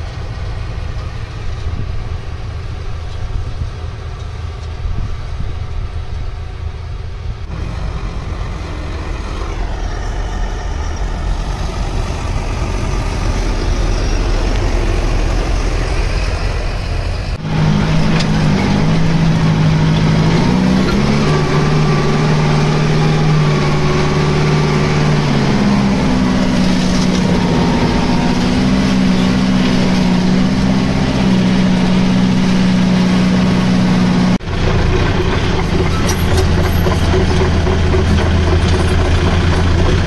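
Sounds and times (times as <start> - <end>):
lower steady engine note: 0.0 - 40.0
tractor diesel engine running: 0.0 - 40.0.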